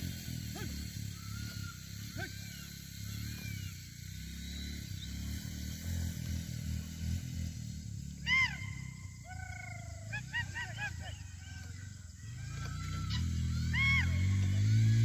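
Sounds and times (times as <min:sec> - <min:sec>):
animal calls: 0:00.0 - 0:05.8, 0:08.2 - 0:15.0.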